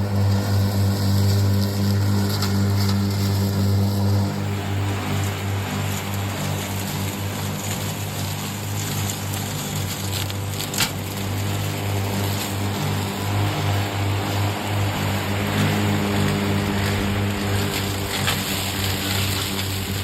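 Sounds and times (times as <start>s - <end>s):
toy lawn mower humming: 0.0s - 20.0s.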